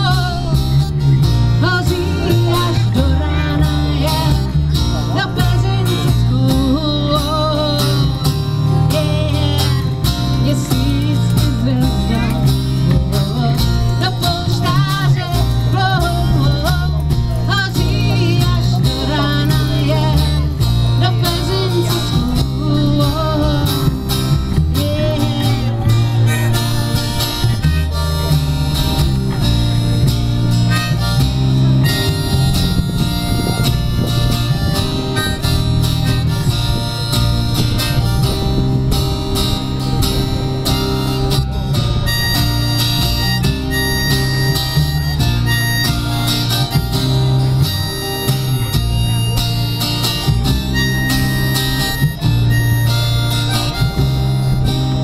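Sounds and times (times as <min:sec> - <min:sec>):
harmonica melody: 0:00.0 - 0:55.0
plucked double bass: 0:00.0 - 0:55.0
strummed acoustic guitar: 0:00.0 - 0:55.0.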